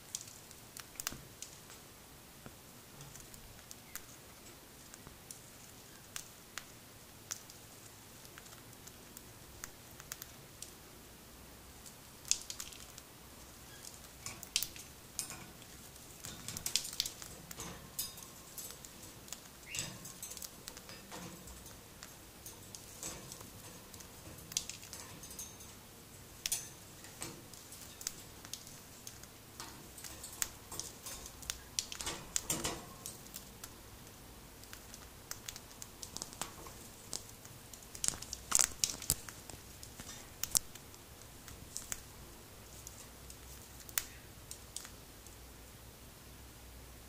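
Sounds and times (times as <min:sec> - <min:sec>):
bird husking seeds crackling: 0:00.0 - 0:45.5.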